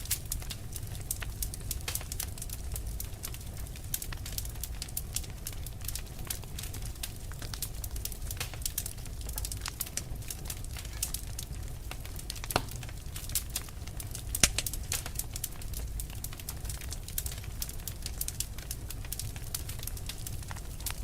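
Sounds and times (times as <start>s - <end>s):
fire crackling and popping: 0.0s - 21.0s
low fire rumble: 0.0s - 21.0s.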